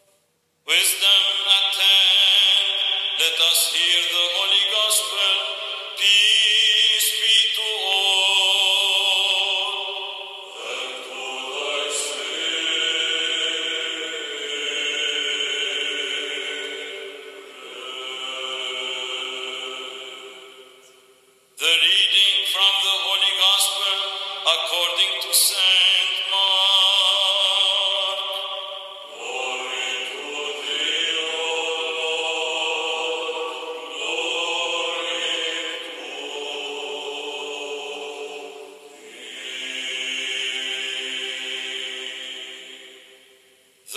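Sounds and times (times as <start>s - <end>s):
liturgical chant: 0.0s - 43.9s.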